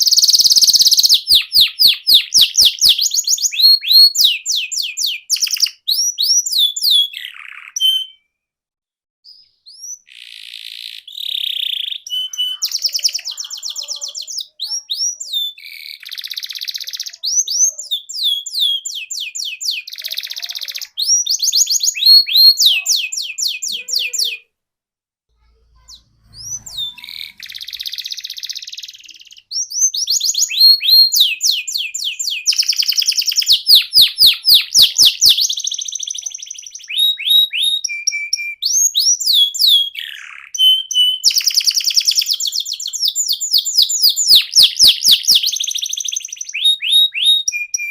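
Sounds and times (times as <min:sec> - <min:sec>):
canary singing trills: 0:00.0 - 0:08.3, 0:09.3 - 0:24.5, 0:25.5 - 0:47.9.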